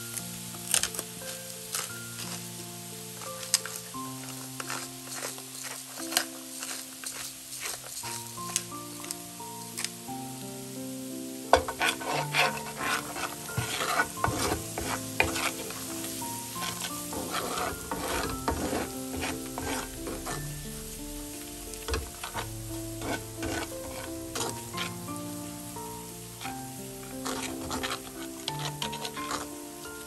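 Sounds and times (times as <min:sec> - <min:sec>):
food sizzling in frying pan: 0:00.0 - 0:30.0
soft background music: 0:00.0 - 0:30.0
utensil scraping pan: 0:03.1 - 0:09.9, 0:11.5 - 0:30.0.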